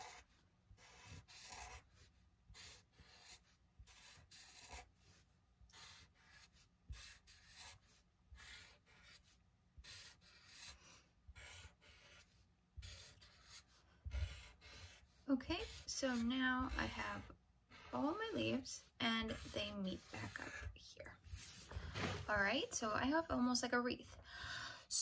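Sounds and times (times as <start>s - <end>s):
marker scratching on paper: 0.0s - 23.5s.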